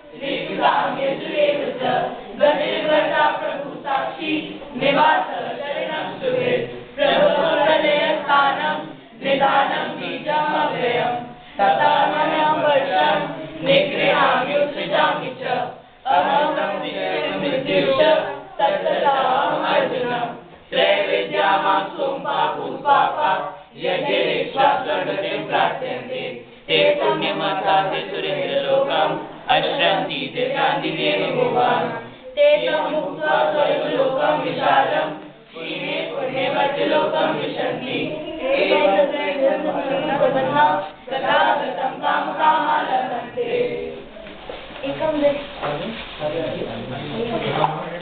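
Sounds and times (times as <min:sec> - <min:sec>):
group chanting in unison: 0:00.0 - 0:48.0.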